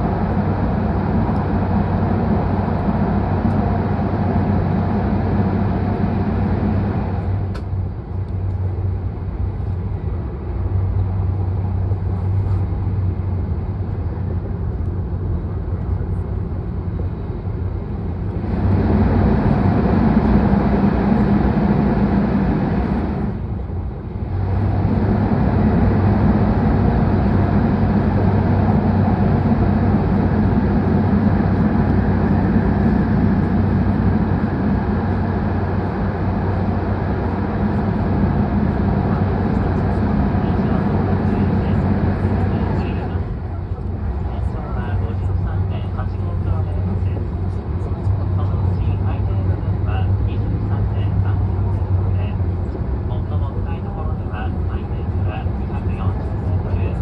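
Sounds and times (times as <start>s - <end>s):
low hum: 0.0s - 57.0s
train cabin rumble: 0.0s - 57.0s.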